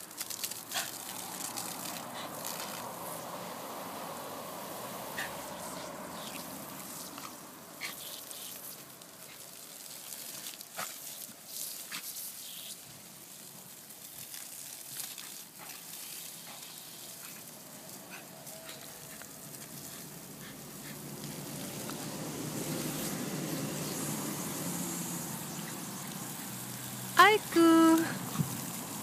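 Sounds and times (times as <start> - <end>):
water jet spraying onto grass: 0.0 - 29.0.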